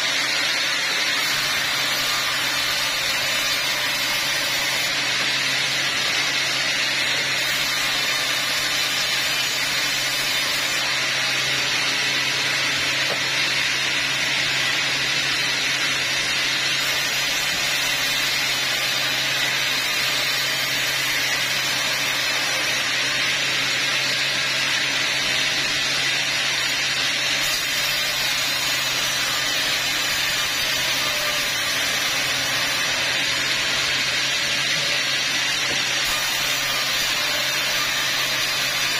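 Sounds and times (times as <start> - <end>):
band saw blade cutting wood: 0.0 - 38.9.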